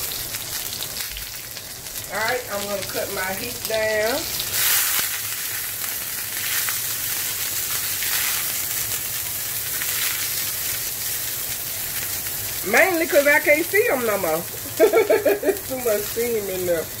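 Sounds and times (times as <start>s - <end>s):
zucchini sizzling in hot skillet: 0.0s - 17.0s.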